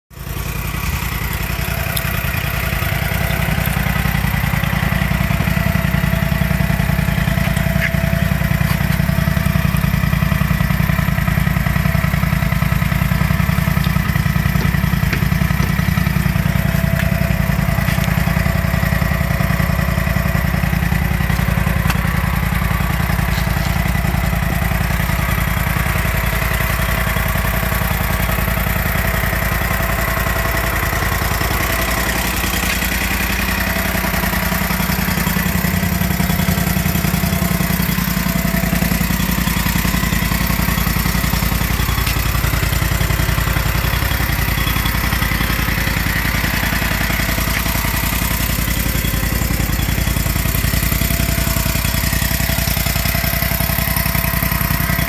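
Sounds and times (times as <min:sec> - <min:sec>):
engine idling: 0:00.1 - 0:55.0.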